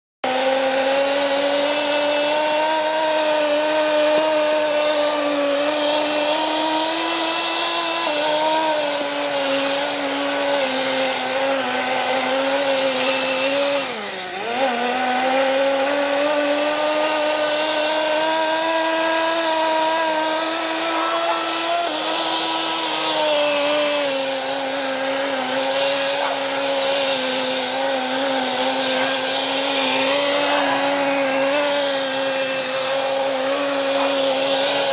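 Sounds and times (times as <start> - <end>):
small nitro engine buzzing: 0.2 - 34.9.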